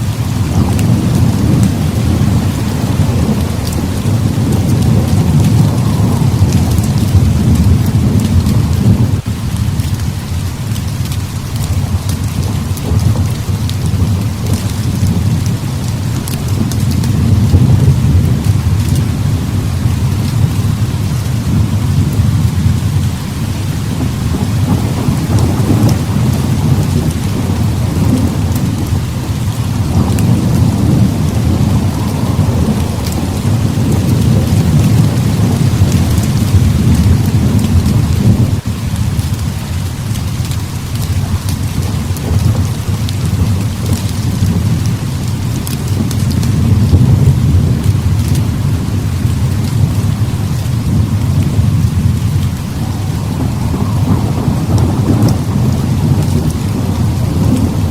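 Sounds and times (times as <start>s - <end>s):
heavy rain pouring: 0.0s - 57.9s
low rumble of thunder: 0.0s - 57.9s.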